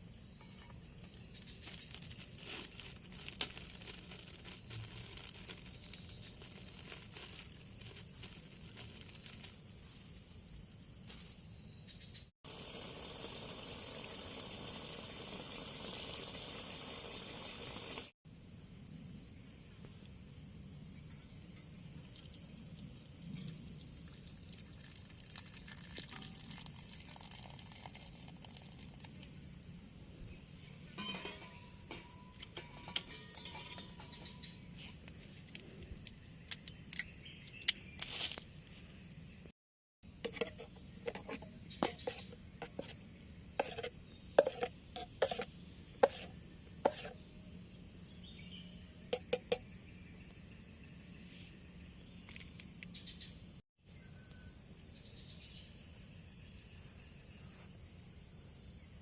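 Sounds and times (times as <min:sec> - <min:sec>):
forest insects chorus: 0:00.0 - 0:59.0.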